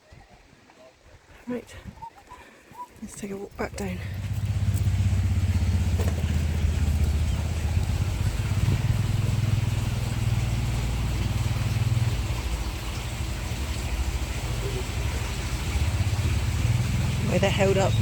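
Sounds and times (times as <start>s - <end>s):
engine running close by: 3.5s - 18.0s.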